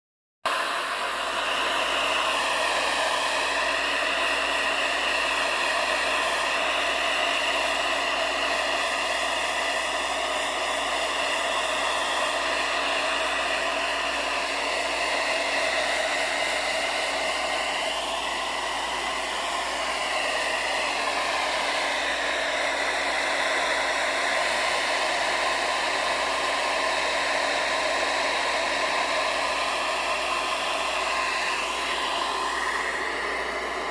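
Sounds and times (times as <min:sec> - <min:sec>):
hair dryer blowing: 0:00.5 - 0:33.9.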